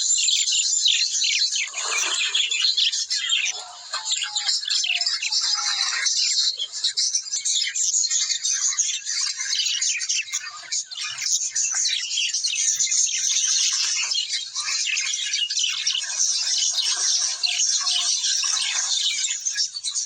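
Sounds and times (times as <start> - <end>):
flock of birds chattering: 0.0 - 20.0.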